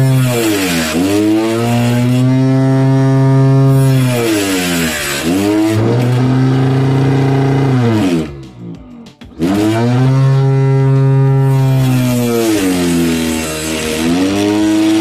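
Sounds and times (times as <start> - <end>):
table saw motor whining: 0.0 - 8.5, 9.4 - 15.0
saw blade cutting board: 0.0 - 15.0.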